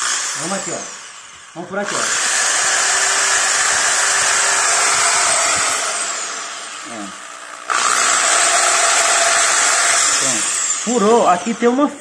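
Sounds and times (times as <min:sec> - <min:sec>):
electric drill boring: 0:00.0 - 0:12.0.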